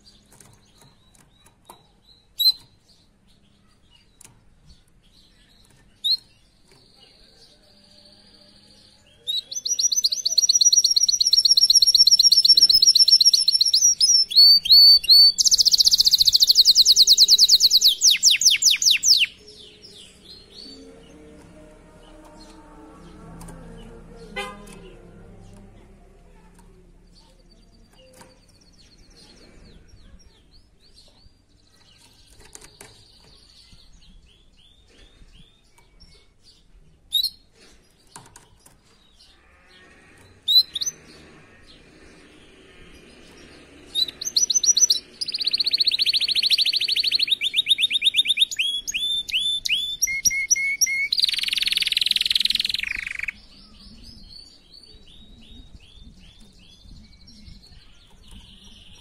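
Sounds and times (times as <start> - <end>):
canary singing: 0.0 - 59.0.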